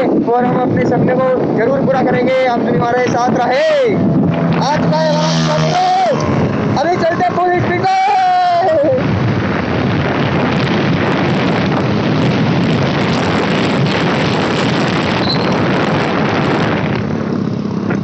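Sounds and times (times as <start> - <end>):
wind rush on microphone: 0.0 - 18.0
motorcycle engine running: 1.4 - 18.0.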